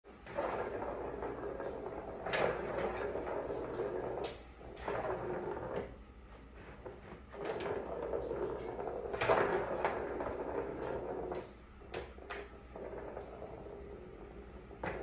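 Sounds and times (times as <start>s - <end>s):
plastic tray scraping and knocking: 0.2s - 15.0s.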